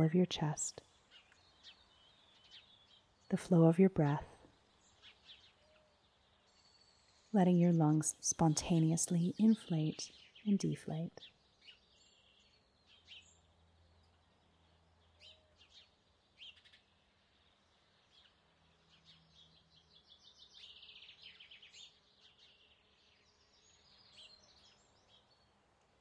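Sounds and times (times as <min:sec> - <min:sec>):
faint bird chirps and trills: 0:00.0 - 0:26.0.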